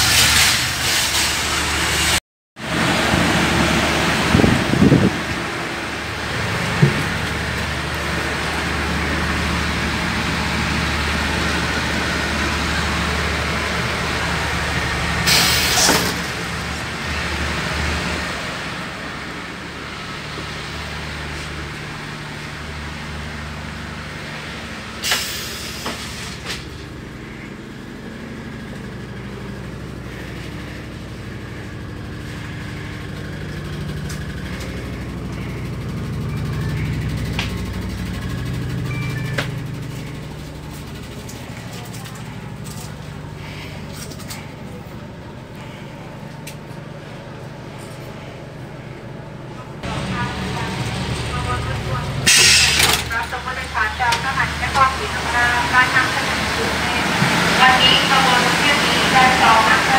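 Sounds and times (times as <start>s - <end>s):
railway carriage machinery hum: 0.0s - 59.9s.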